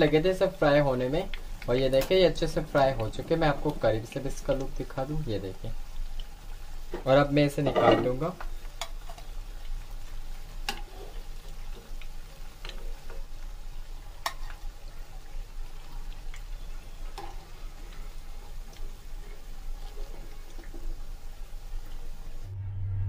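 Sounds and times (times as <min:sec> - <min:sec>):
oil sizzling: 0:00.0 - 0:22.5.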